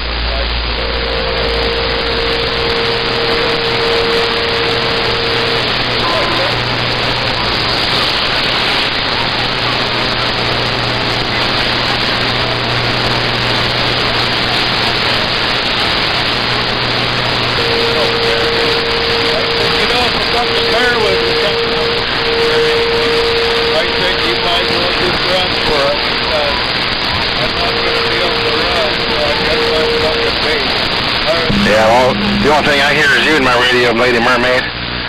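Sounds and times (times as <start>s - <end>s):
steady whistle tone: 0.4s - 34.7s
radio static hiss: 0.7s - 34.7s.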